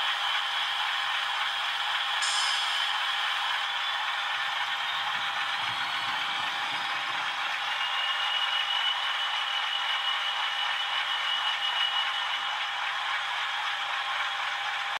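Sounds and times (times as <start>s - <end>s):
model diesel locomotives idling: 0.0s - 14.9s.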